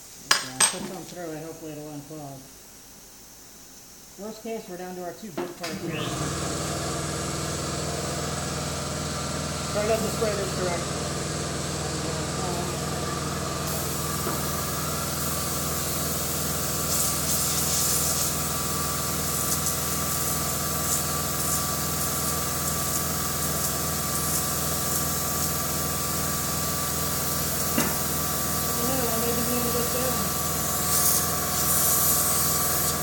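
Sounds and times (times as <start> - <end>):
low machine hum: 4.2 - 31.6
paint spray gun hissing: 5.9 - 33.0.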